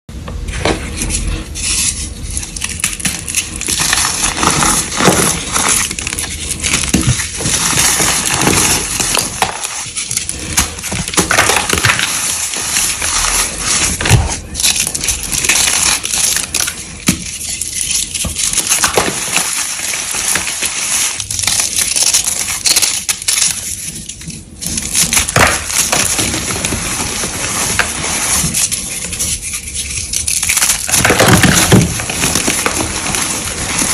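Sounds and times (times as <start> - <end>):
chalk crushing and crumbling: 0.5 - 33.9.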